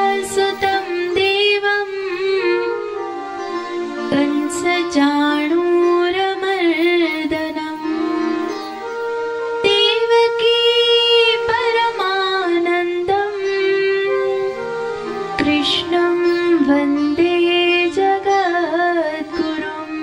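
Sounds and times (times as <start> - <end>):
person singing ornamented melody: 0.0 - 20.0.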